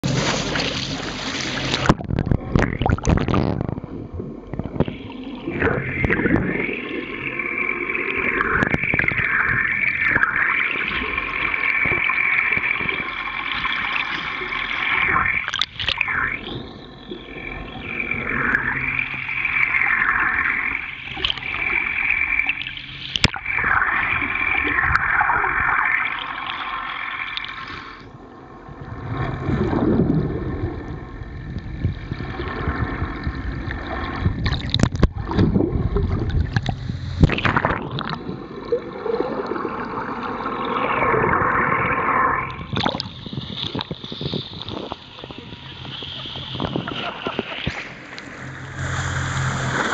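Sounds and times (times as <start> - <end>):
water rushing and gurgling: 0.0 - 49.9
whine: 0.0 - 49.9.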